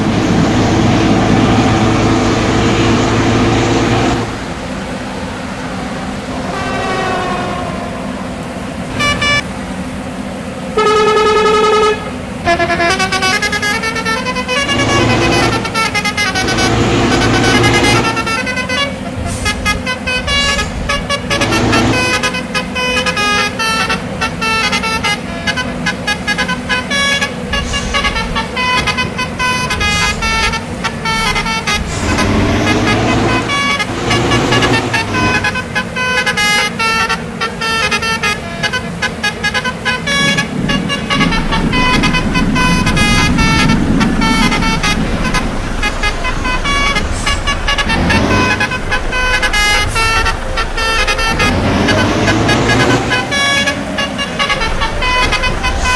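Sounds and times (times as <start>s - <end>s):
musical air horn honking: 0.0s - 9.5s, 10.8s - 55.9s
bus engine running: 0.0s - 55.9s.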